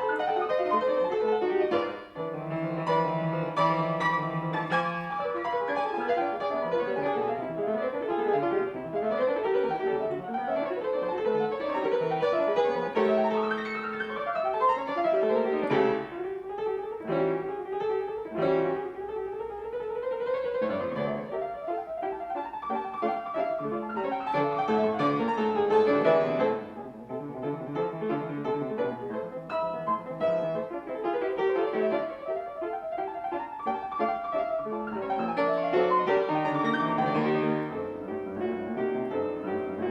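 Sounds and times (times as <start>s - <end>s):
grand piano playing: 0.0s - 39.9s.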